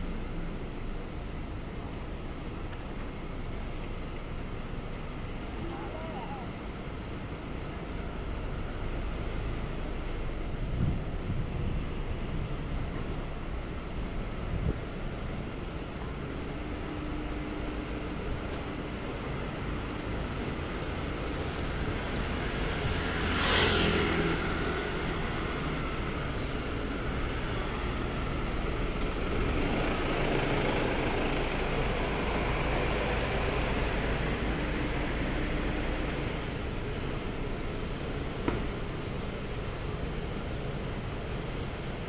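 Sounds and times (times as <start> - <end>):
city street traffic: 0.0 - 42.0.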